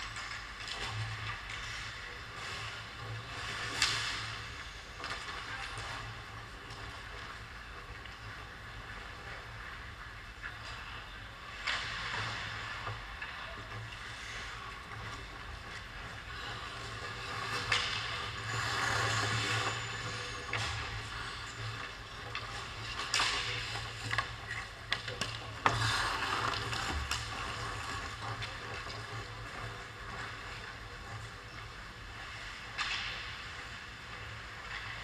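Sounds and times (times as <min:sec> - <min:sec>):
skate blades scraping ice: 0:00.0 - 0:35.0.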